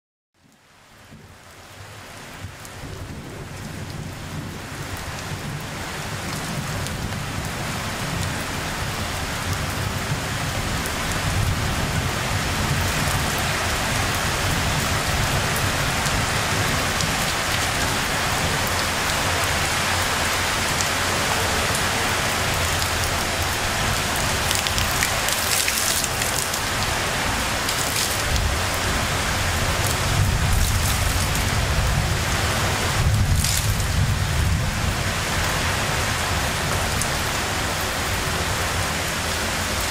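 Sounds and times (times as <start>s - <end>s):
steady rain falling: 0.4s - 39.9s.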